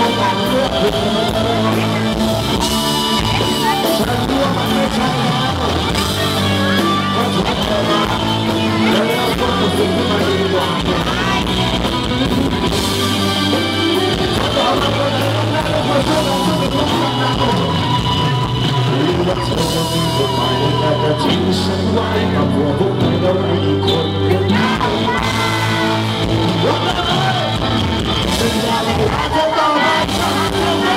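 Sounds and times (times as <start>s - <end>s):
drum kit: 0.0s - 30.9s
electric bass: 0.0s - 30.9s
electric guitar: 0.0s - 30.9s
man singing: 0.0s - 30.9s.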